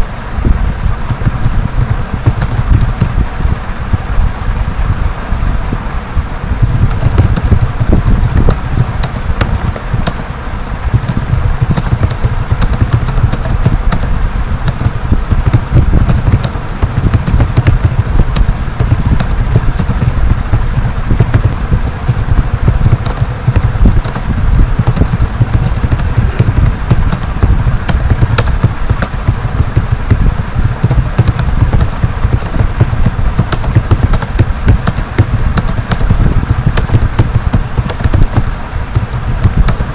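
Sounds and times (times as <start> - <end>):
steady low rumble: 0.0 - 39.9
computer keyboard typing: 1.0 - 3.2, 6.6 - 10.3, 10.9 - 39.9.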